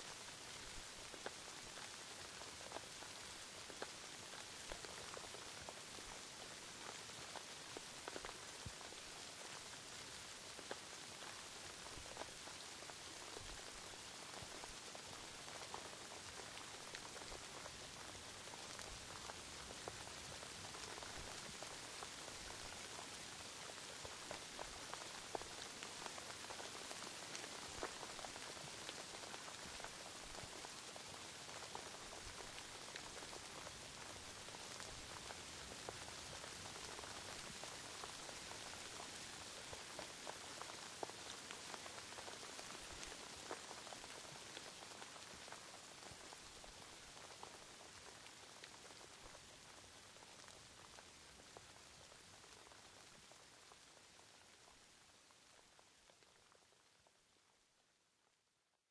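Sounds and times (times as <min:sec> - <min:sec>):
steady rain hiss: 0:00.0 - 0:58.8
raindrops ticking: 0:00.1 - 0:56.8.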